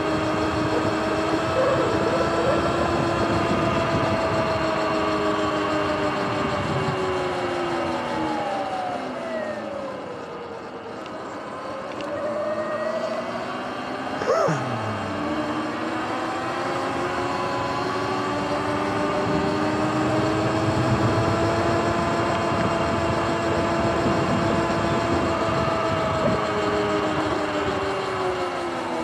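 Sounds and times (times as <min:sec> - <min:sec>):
electric motor whining: 0:00.0 - 0:29.0
wind and tyre noise: 0:00.0 - 0:29.0.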